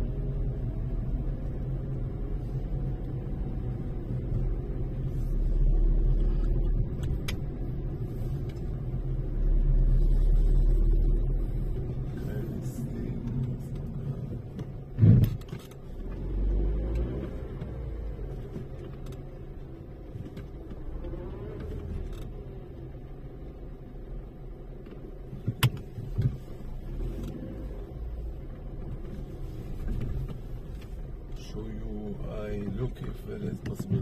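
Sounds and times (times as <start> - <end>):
car rumble: 0.0 - 34.0.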